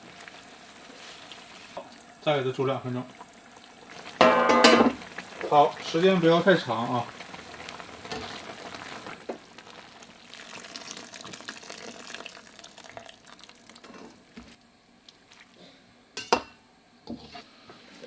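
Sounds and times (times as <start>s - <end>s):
broth boiling in a pot: 0.0s - 18.0s.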